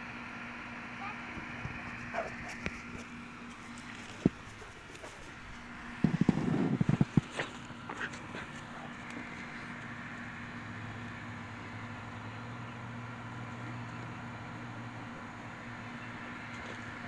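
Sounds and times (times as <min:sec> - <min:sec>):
low mechanical hum: 0:00.0 - 0:17.0
outdoor background hiss: 0:00.0 - 0:17.0.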